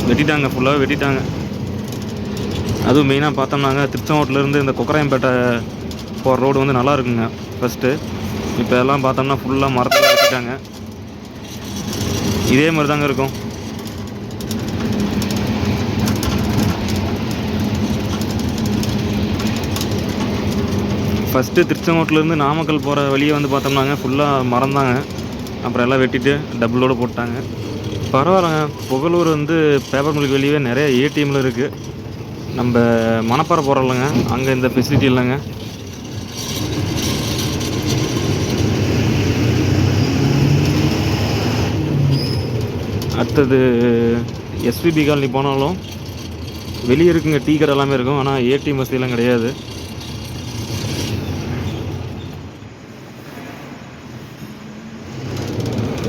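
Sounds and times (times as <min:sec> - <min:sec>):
road noise: 0:00.0 - 0:56.0
truck engine droning: 0:00.0 - 0:56.0.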